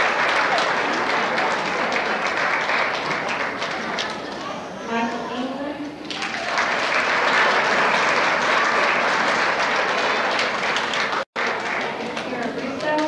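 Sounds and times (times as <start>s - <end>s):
audience applauding: 0.0s - 4.5s, 6.1s - 13.0s.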